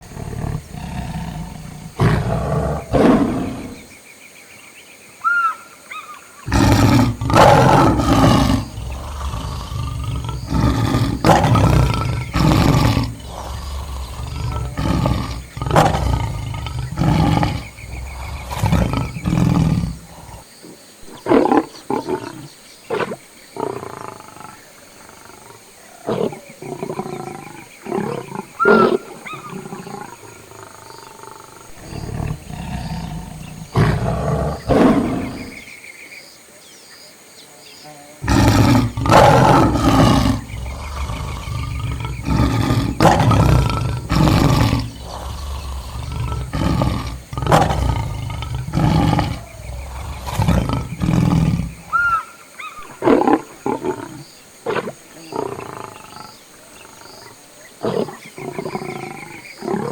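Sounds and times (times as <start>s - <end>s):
lions roaring and growling: 0.0s - 3.9s, 6.5s - 20.5s, 21.1s - 35.6s, 38.2s - 52.2s, 57.8s - 59.9s.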